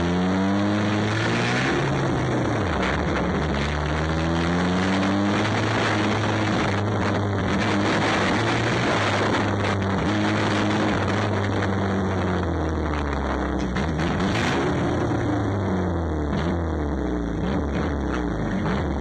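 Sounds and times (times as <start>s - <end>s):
race car engine under load: 0.0s - 19.0s
road and tyre noise: 0.0s - 19.0s.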